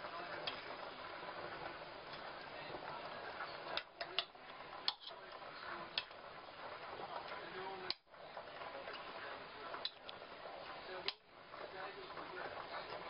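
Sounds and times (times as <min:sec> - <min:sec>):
steady sizzling hiss: 0:00.0 - 0:13.0.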